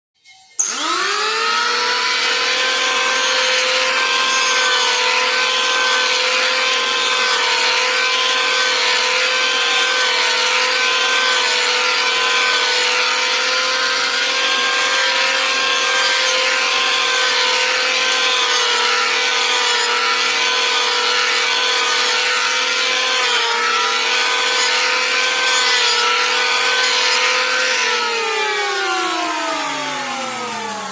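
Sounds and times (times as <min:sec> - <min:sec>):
power tool motor whining: 0:00.5 - 0:30.9
wood being worked hissing: 0:00.7 - 0:30.9.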